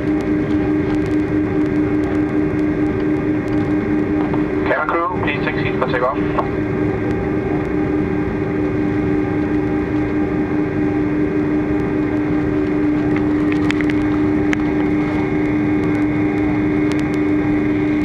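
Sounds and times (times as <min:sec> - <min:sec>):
jet engine hum in cabin: 0:00.0 - 0:18.0.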